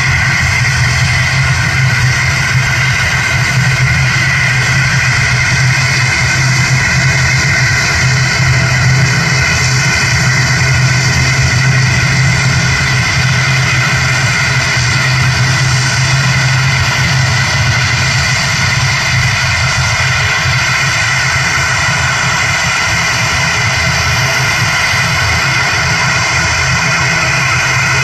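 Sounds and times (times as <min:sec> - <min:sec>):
turboprop engines droning: 0:00.0 - 0:28.0.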